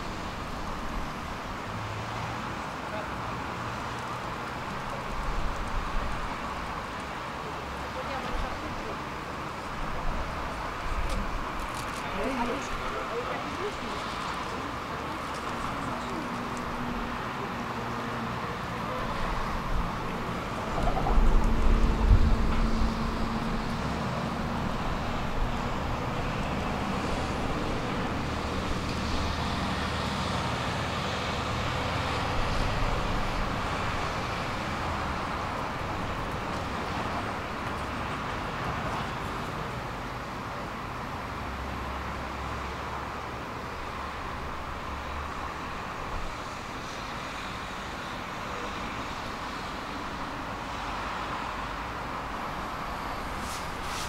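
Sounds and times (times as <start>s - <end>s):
tram rumbling on track: 0.0s - 54.0s.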